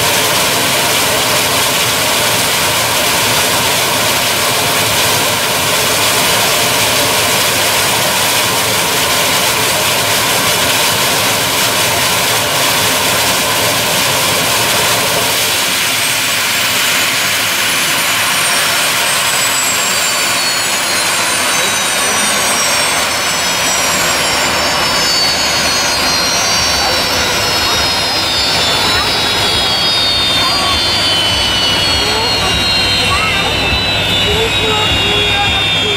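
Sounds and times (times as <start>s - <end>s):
high whistling tones sliding downward: 0.0s - 35.9s
turbine engines jet-like rush: 0.0s - 35.9s.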